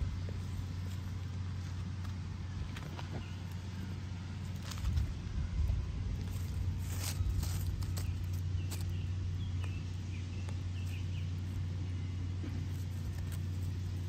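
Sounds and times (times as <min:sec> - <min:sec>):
low mechanical hum: 0:00.0 - 0:14.0
rustling of dry leaves: 0:00.0 - 0:14.0.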